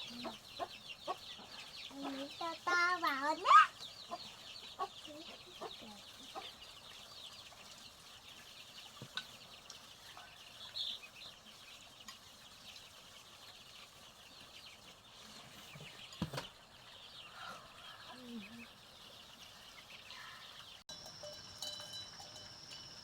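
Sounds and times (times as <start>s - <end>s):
chicks peeping: 0.0s - 20.8s.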